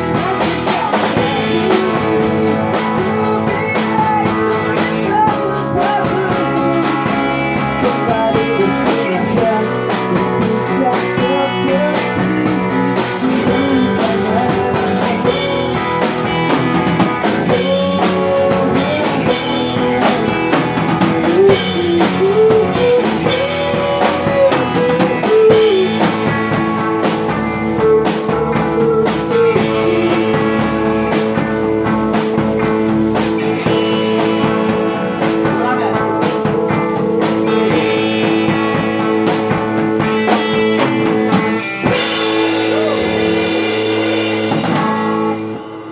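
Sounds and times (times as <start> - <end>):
pop-rock band playing: 0.0 - 45.9.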